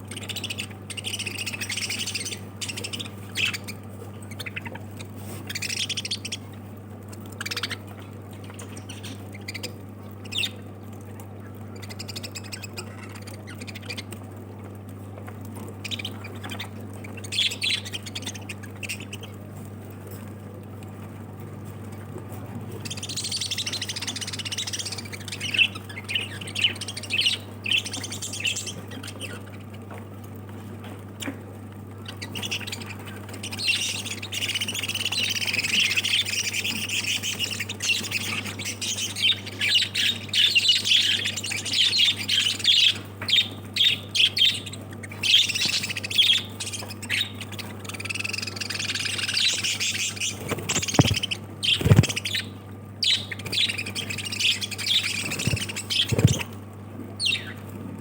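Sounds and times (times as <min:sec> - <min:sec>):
lovebirds squawking and chirping: 0:00.1 - 0:10.7, 0:11.4 - 0:14.2, 0:15.8 - 0:19.4, 0:22.7 - 0:30.0, 0:32.0 - 0:56.6, 0:57.2 - 0:57.7.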